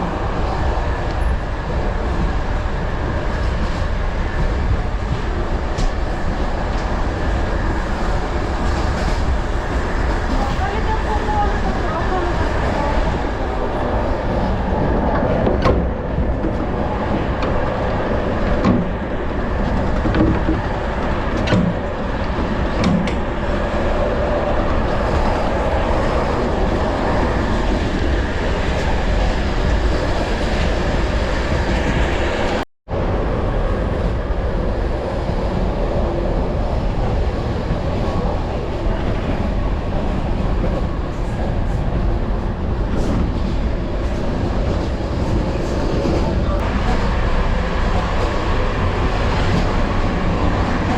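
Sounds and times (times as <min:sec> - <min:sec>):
passenger train running: 0:00.0 - 0:50.9.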